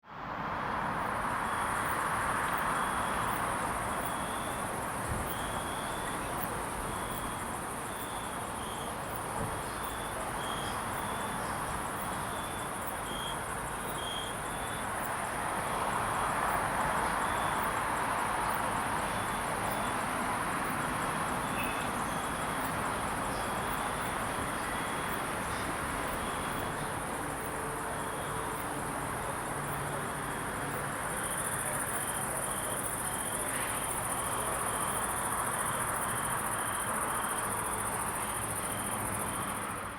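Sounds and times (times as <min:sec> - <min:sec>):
crickets chirping: 0:00.8 - 0:39.9.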